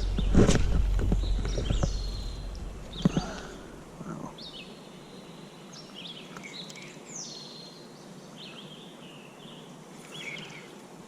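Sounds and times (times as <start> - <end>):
birds chirping: 0.0 - 10.9
running river water: 0.0 - 11.0.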